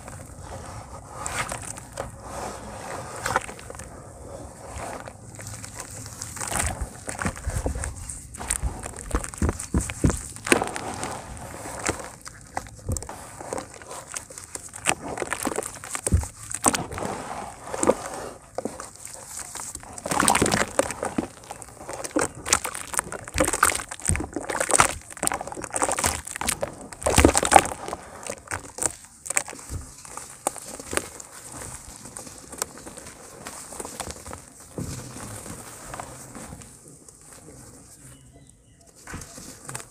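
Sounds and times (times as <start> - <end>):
cement lumps crumbling: 0.0 - 37.4
hands squelching wet cement: 0.0 - 37.4.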